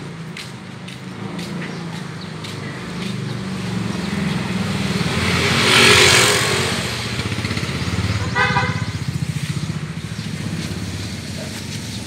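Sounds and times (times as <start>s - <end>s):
road noise: 0.0s - 12.0s
vehicle engine passing: 0.0s - 12.0s.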